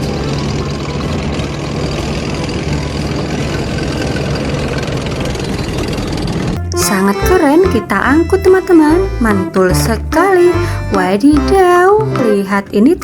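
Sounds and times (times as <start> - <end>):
tank engine running: 0.0 - 13.0.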